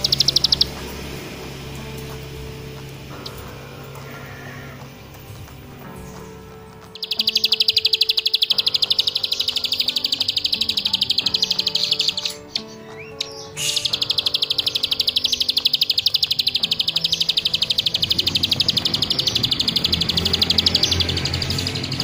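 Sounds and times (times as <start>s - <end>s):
bird singing a buzzing trill: 0.0s - 22.0s
faint background music: 0.0s - 22.0s.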